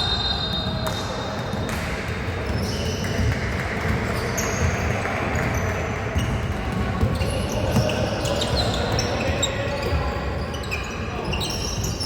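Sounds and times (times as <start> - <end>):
shoe squeaks: 0.0 - 1.6, 2.4 - 3.3, 4.0 - 12.0
crowd and hall background: 0.0 - 12.0
basketball bouncing on court: 0.6 - 12.0.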